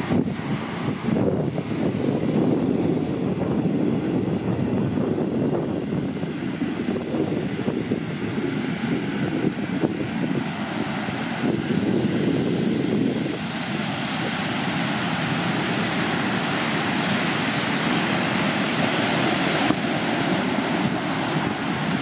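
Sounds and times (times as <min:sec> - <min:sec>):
ocean surf breaking: 0:00.0 - 0:22.0
wind on microphone: 0:00.0 - 0:22.0.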